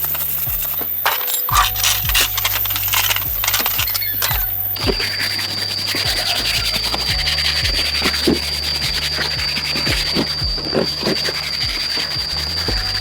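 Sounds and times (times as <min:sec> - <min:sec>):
background music with low beat: 0:00.0 - 0:13.0
rhythmic sanding: 0:00.0 - 0:13.0.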